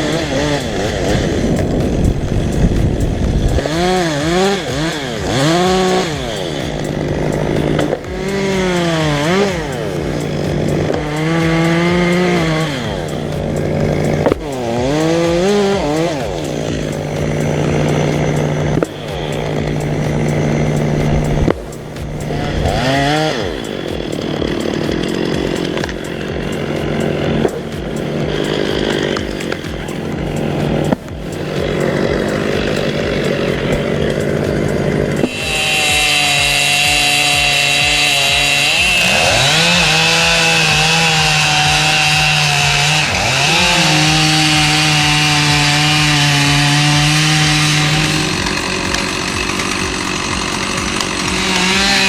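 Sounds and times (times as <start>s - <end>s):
chainsaw engine revving and idling: 0.0s - 52.0s.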